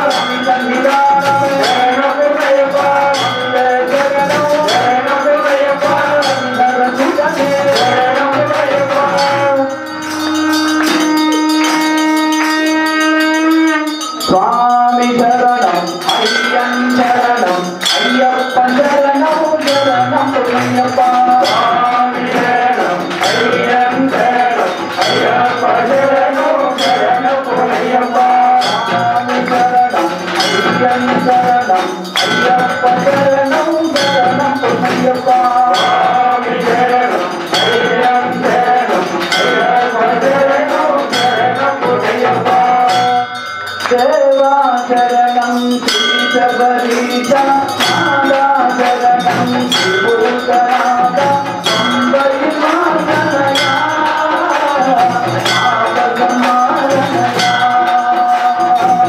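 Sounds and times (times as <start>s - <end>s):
music: 0.0s - 59.0s
temple bells clanging: 0.0s - 59.0s.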